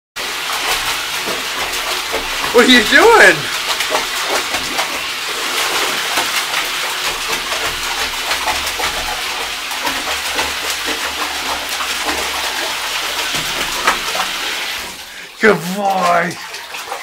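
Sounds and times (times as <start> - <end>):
puppy splashing in bathwater: 0.2 - 17.0.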